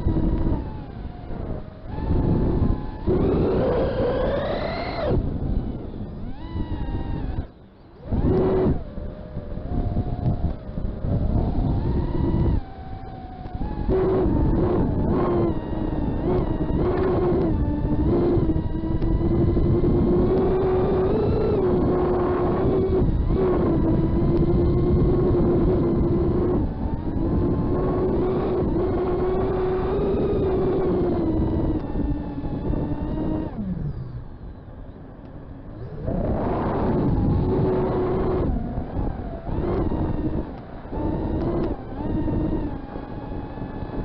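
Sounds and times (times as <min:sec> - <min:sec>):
drone motors buzzing: 0:00.0 - 0:44.0.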